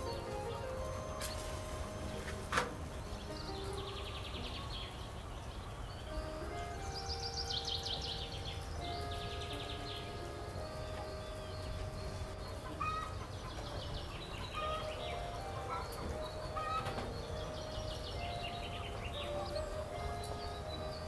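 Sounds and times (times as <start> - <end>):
birds chirping and trilling: 0.0 - 21.0
soft background music: 0.0 - 21.0.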